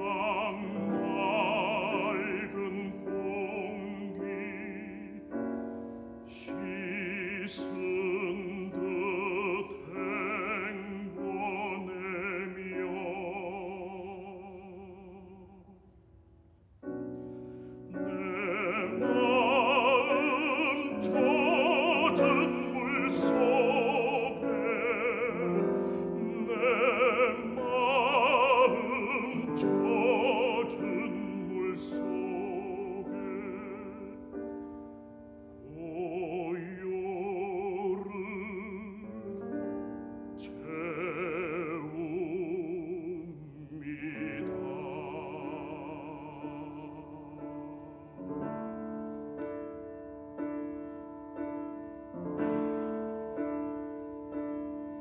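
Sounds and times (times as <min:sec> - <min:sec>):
baritone singing with vibrato: 0:00.0 - 0:15.8, 0:17.9 - 0:34.7, 0:35.6 - 0:49.3
grand piano: 0:00.0 - 0:55.0.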